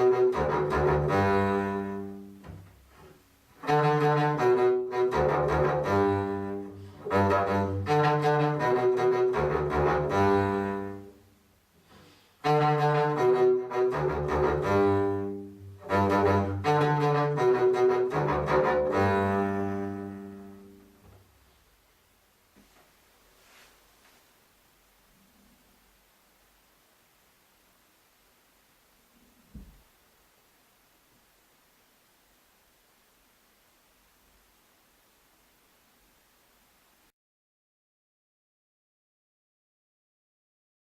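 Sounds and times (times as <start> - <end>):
faint hiss: 0.0 - 37.1.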